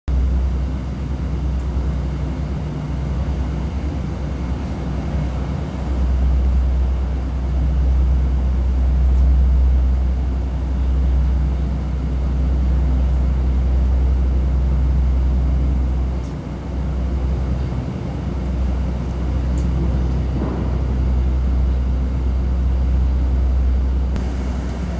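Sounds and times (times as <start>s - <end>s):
diesel engine rumbling: 0.1s - 24.9s.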